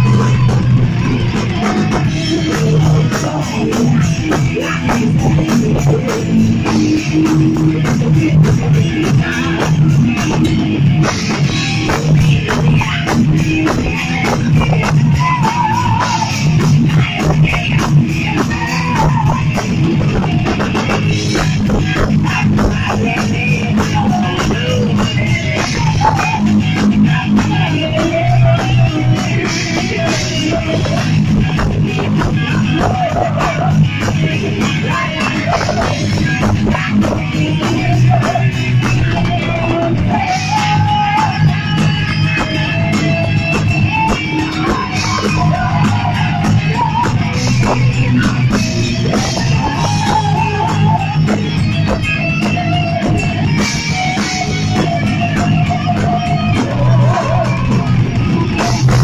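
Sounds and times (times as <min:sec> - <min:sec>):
electric guitars: 0:00.0 - 0:59.0
rapid drum hits: 0:00.0 - 0:59.0.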